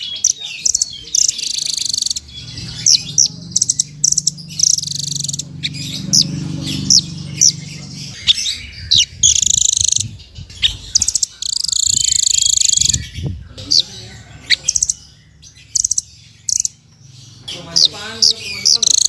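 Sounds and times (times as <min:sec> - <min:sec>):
songbird trills and chirps: 0:00.0 - 0:19.0.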